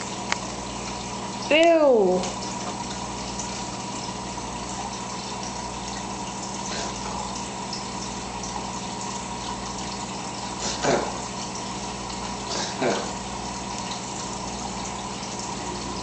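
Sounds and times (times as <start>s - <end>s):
aquarium filter water rushing: 0.0s - 16.0s
electric hum: 0.0s - 16.0s.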